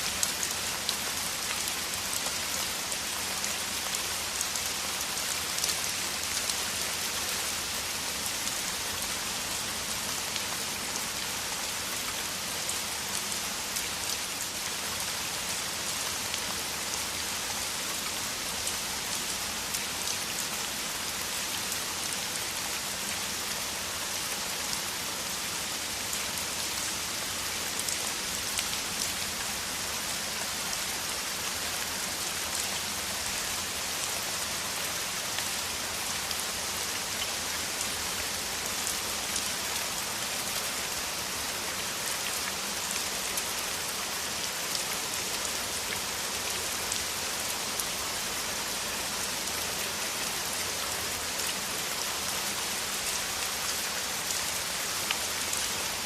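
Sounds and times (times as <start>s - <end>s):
heavy rain on ground: 0.0s - 56.0s.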